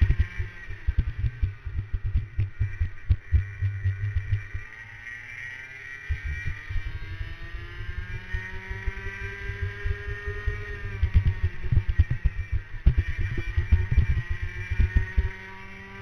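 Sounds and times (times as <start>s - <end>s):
kart engine accelerating: 0.0s - 16.0s.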